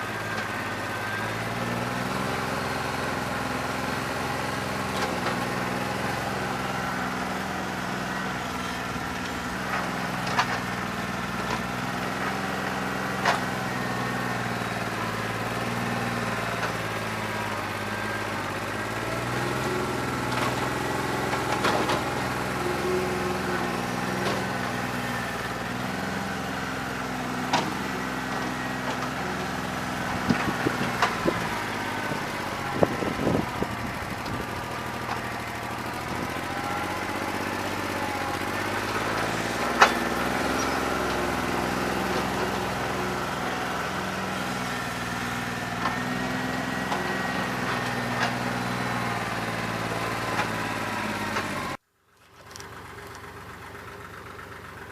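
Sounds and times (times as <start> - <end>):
misfiring diesel tractor engine: 0.0 - 54.9.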